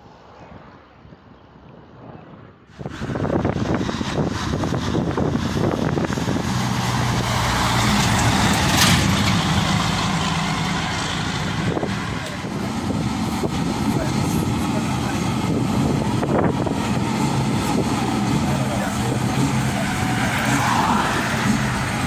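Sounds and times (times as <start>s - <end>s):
dump truck passing: 2.7s - 22.0s.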